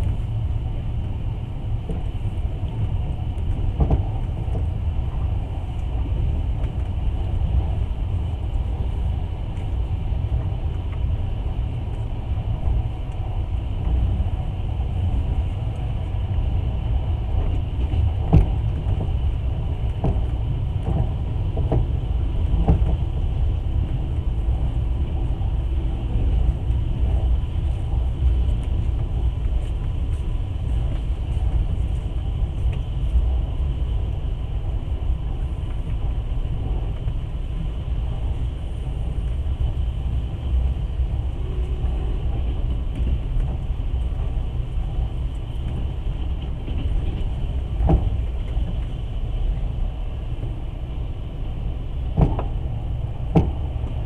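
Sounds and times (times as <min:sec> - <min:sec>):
train rumble inside carriage: 0:00.0 - 0:54.0.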